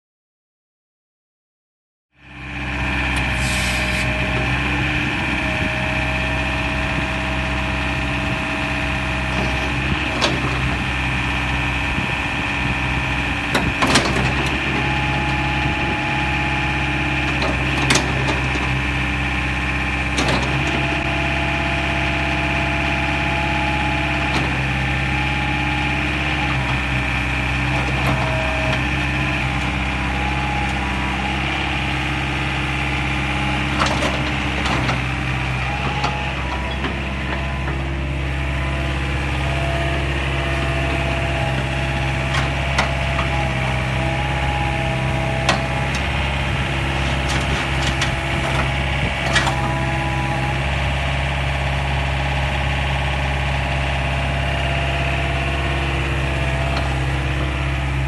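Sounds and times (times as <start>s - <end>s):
excavator diesel engine running: 2.2s - 58.0s
hydraulic whining: 2.8s - 58.0s.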